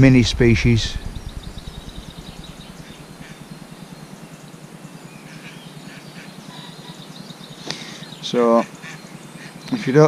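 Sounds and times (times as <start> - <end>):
low steady rumble: 0.0 - 8.3
distant bird chirps: 0.0 - 10.0.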